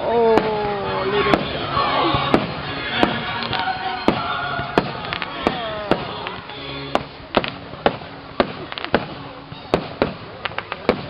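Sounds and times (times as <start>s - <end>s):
whistling fireworks gliding down: 0.0s - 11.0s
fireworks bangs and cracks: 0.1s - 11.0s.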